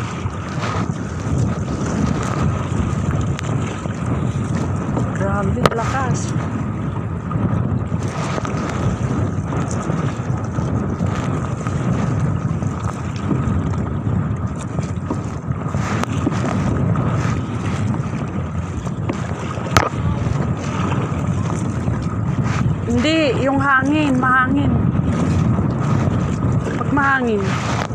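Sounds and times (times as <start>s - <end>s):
water splashing around kayak: 0.0s - 27.9s
wind buffeting microphone: 0.0s - 27.9s.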